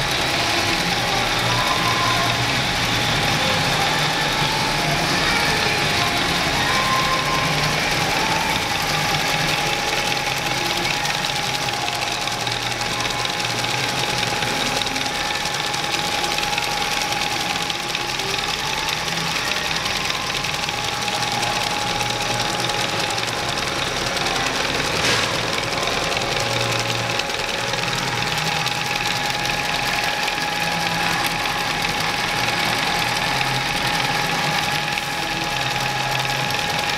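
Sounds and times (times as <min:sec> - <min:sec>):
braiding machine clatter: 0:00.0 - 0:36.9
high machine whine: 0:00.0 - 0:36.9.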